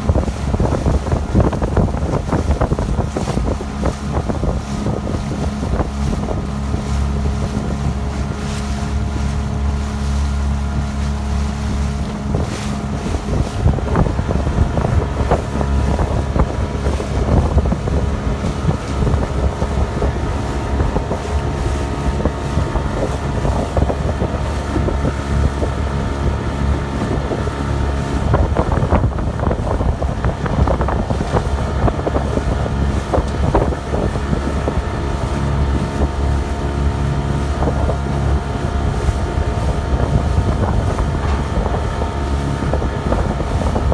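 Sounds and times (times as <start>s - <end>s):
motorboat engine running: 0.0s - 43.9s
water splashing along hull: 0.0s - 43.9s
wind buffeting microphone: 0.0s - 43.9s.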